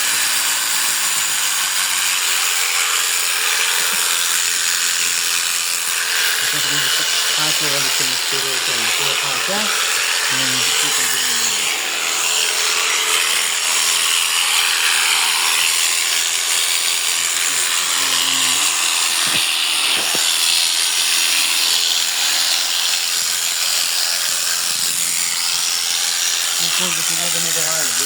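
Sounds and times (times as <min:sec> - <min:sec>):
electric sheep shears buzzing: 0:00.0 - 0:28.0.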